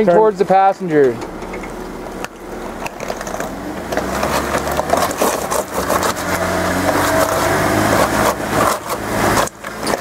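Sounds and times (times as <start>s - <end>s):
engine pulling under load: 0.0s - 10.0s
tyres crunching over rocks: 0.9s - 10.0s.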